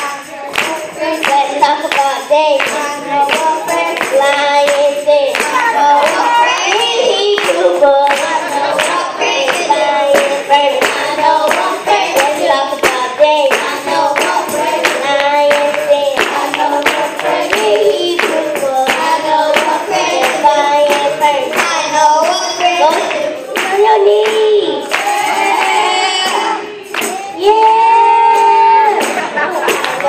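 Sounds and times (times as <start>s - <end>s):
hand clapping: 0.0s - 27.6s, 28.2s - 30.0s
girl singing into microphone: 0.0s - 29.2s
children singing gospel song: 0.0s - 30.0s.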